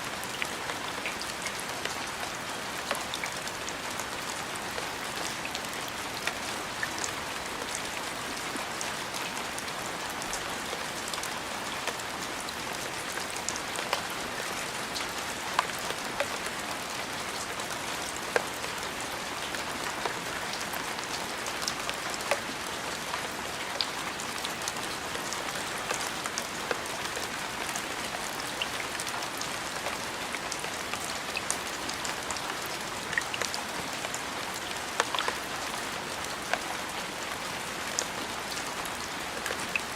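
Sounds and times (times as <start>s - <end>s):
steady rain hiss: 0.0s - 39.9s
raindrops ticking on surface: 0.1s - 39.9s.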